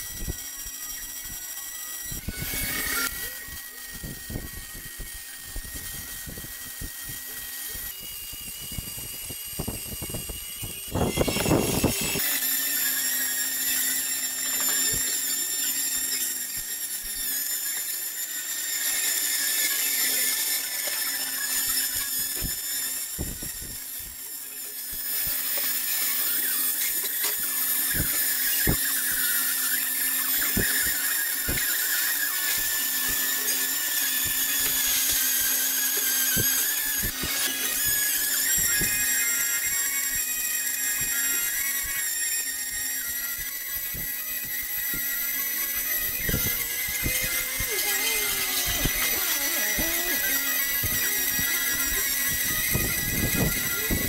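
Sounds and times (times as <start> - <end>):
power tool whine: 0.0 - 54.0.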